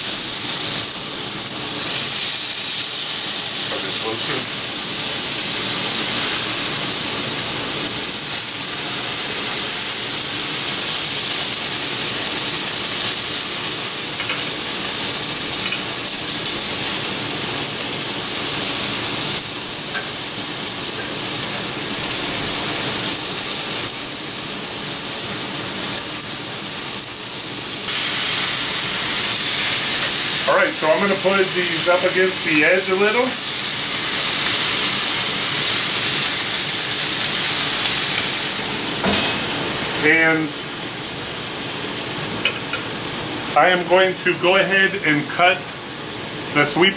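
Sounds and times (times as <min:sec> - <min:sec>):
pork chops sizzling on griddle: 0:00.0 - 0:46.9.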